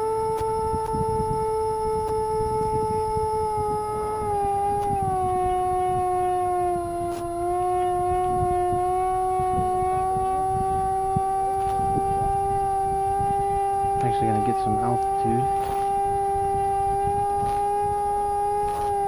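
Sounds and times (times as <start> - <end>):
electric ducted fans whining: 0.0 - 19.0
wind rush on microphone: 0.0 - 19.0.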